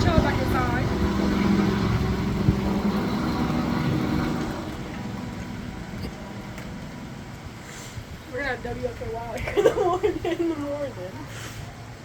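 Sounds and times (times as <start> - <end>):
vehicle engine humming: 0.0 - 11.2.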